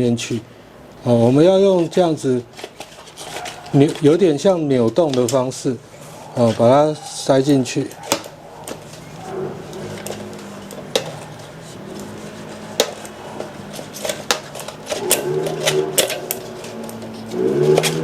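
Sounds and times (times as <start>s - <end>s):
rubber rubbing on rim: 1.6s - 4.4s, 6.0s - 18.0s.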